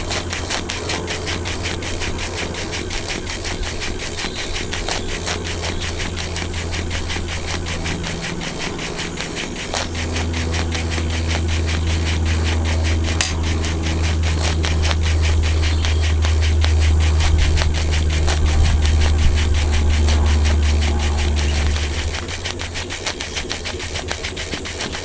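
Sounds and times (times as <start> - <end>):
low rumble: 0.0 - 24.8
model steam engine beating: 0.0 - 25.0.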